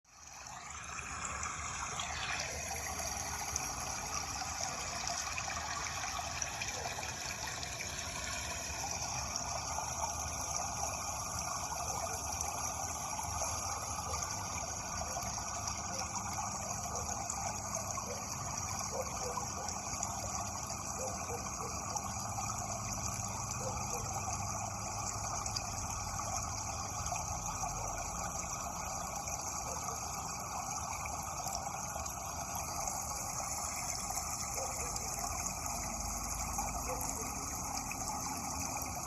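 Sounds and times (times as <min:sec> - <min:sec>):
running water: 0:00.1 - 0:39.0.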